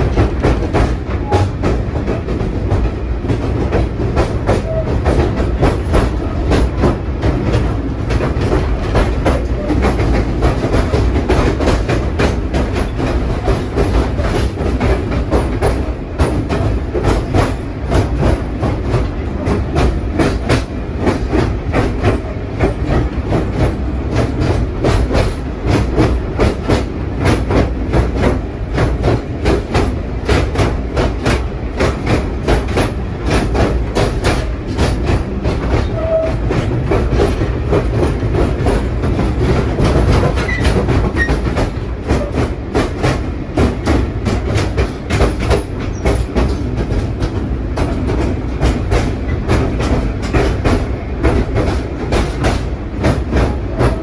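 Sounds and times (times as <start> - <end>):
train carriage rumble: 0.0 - 54.0
wheels clattering on rails: 0.0 - 54.0.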